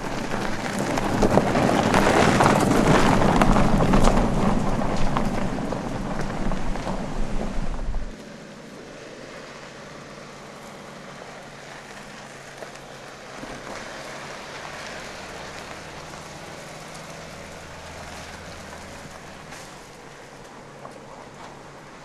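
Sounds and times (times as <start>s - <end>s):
low engine hum: 0.0s - 22.0s
tyres hissing on gravel: 0.0s - 22.0s.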